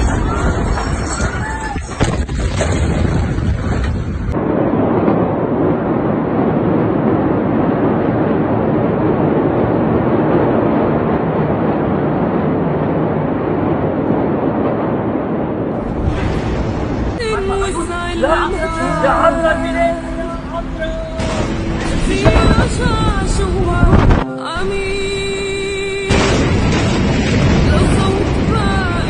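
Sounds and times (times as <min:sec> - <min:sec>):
explosion rumbling: 0:00.0 - 0:25.3, 0:26.0 - 0:29.0.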